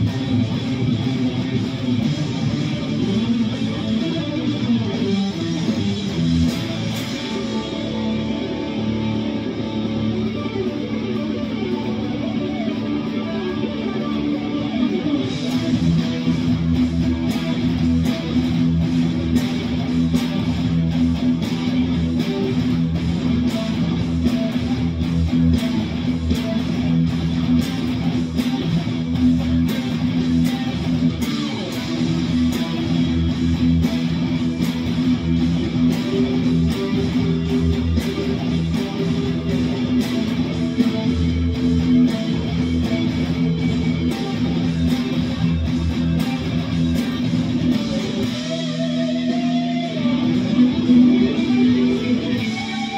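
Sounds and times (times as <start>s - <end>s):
guitar strumming: 0.0s - 52.9s.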